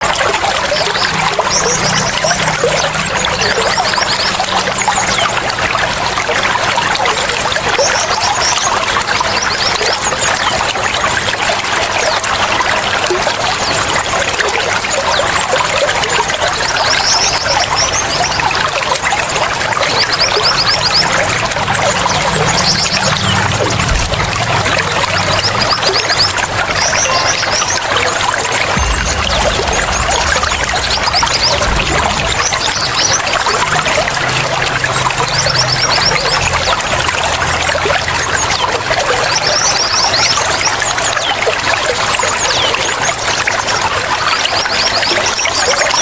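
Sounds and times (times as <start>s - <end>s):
water trickling and splashing: 0.0s - 46.0s.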